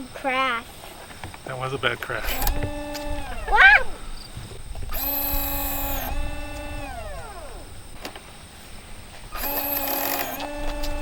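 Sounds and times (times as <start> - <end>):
small electric motor whine: 0.0 - 11.0.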